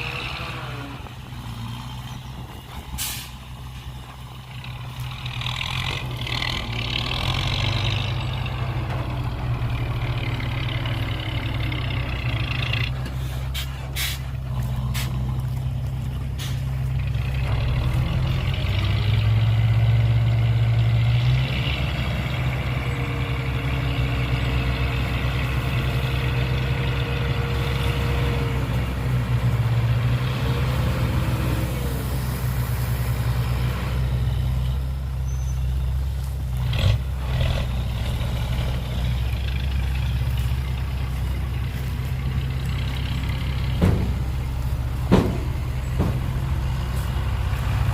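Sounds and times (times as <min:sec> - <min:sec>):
dump truck engine running: 0:00.0 - 0:47.9.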